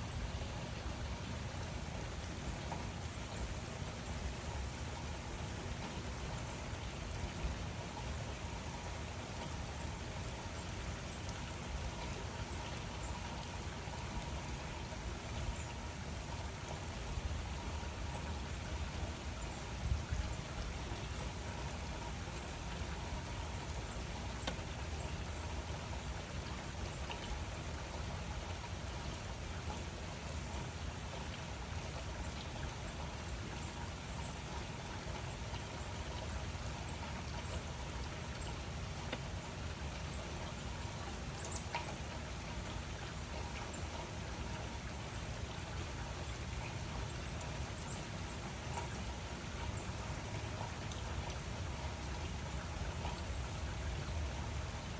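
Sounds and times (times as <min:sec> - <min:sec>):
raindrops ticking on surfaces: 0:00.0 - 0:54.9
steady rain falling: 0:00.0 - 0:54.9.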